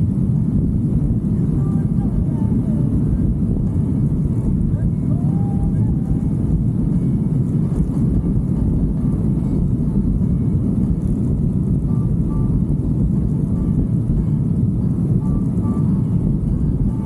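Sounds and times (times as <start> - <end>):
motorcycle engine rumble: 0.0 - 17.0
road noise: 0.0 - 17.0
wind on microphone: 0.0 - 17.0.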